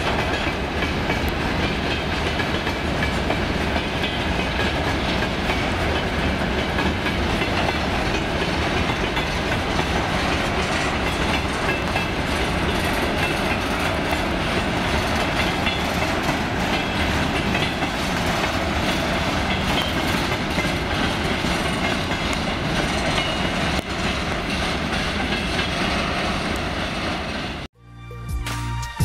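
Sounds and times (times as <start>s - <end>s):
steel wheels running on rails: 0.0s - 27.7s.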